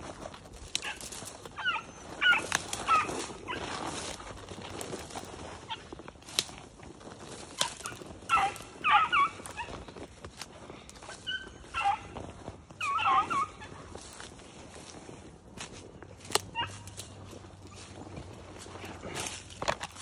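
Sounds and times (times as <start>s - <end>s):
beagles baying: 0.5s - 6.1s, 7.0s - 20.0s.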